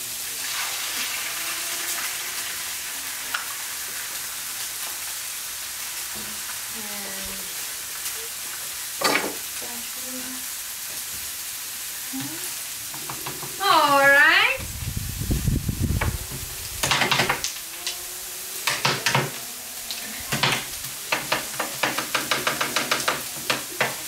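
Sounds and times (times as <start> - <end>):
rice and eggs sizzling: 0.0 - 24.0.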